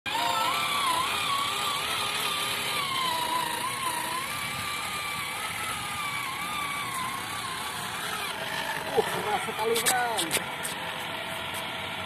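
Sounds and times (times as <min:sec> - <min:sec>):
small motor whining: 0:00.1 - 0:12.0.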